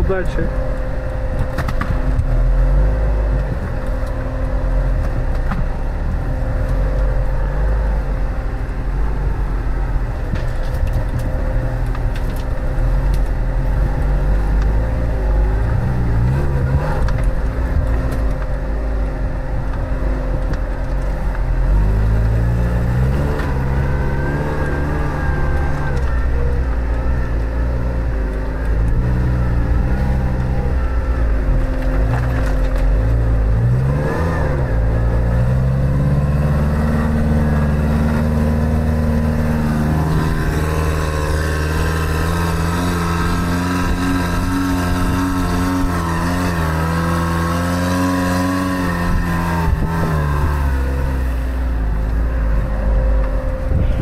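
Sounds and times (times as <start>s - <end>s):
vehicle engine from inside cab: 0.0s - 54.0s.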